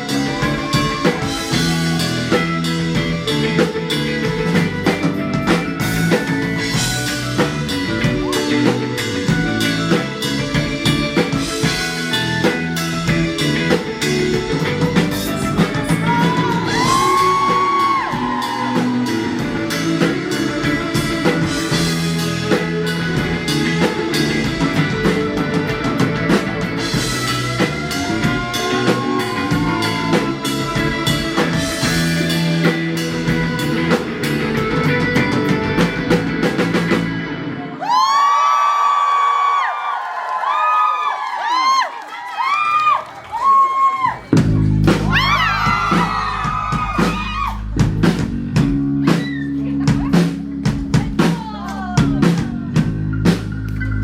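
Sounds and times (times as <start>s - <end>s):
bending lead guitar line: 0.0s - 37.8s, 44.2s - 54.0s
rock band playing live: 0.0s - 38.2s, 44.0s - 54.0s.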